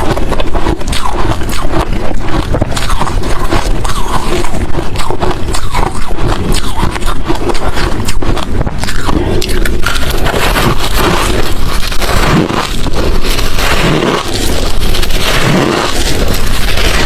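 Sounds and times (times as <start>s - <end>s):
person crunching ice: 0.0s - 17.0s.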